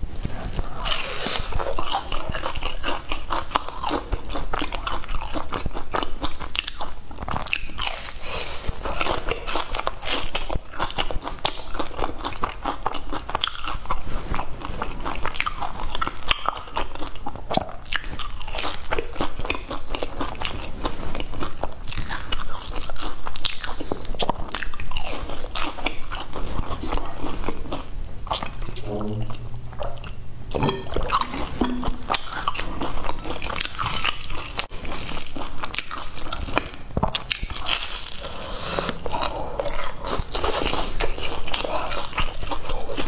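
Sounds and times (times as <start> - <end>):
crunching and chewing fried food: 0.0 - 28.9, 31.0 - 43.0.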